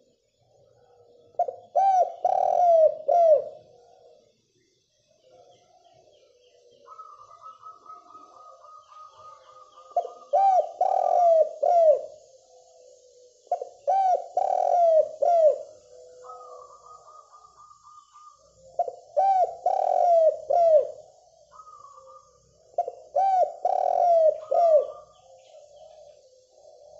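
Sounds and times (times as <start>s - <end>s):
dove cooing: 0.0s - 4.4s, 5.2s - 26.9s.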